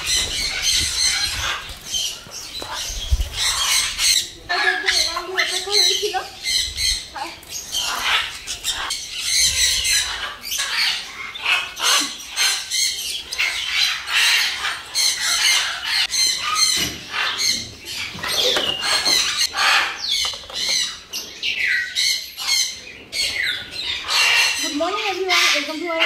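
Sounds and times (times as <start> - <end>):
parrots squawking and screeching: 0.0 - 26.0.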